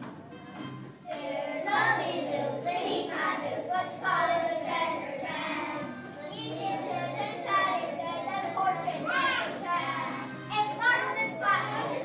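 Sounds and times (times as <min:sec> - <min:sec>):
child singing: 0:01.1 - 0:12.0.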